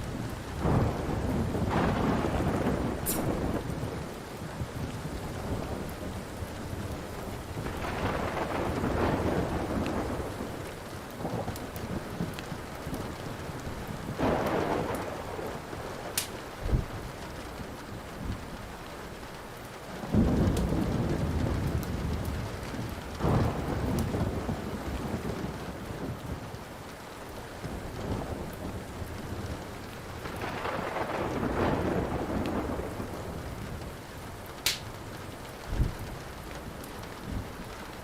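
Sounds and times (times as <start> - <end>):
thunder rumbling: 0.0 - 19.2, 19.9 - 38.0
steady rain: 0.0 - 38.0
wood fire crackling: 0.0 - 38.0.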